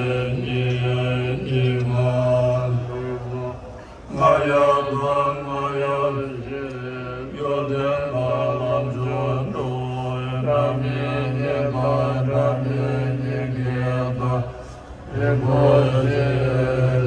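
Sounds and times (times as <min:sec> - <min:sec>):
low voices chanting in unison: 0:00.0 - 0:17.0.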